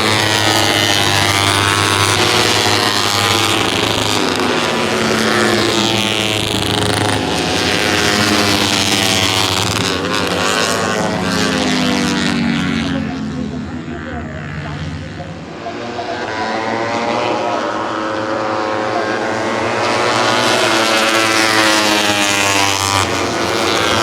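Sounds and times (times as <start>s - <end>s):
race bikes passing at high revs: 0.0s - 24.0s.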